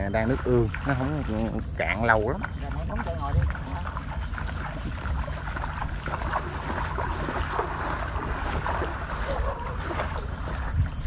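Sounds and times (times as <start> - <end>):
footsteps squelching through mud: 0.0 - 11.0
wind buffeting microphone: 0.0 - 11.0.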